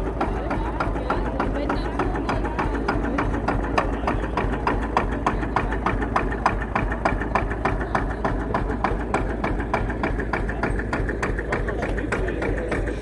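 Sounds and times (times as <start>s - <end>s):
single-cylinder engine idling: 0.0s - 13.0s.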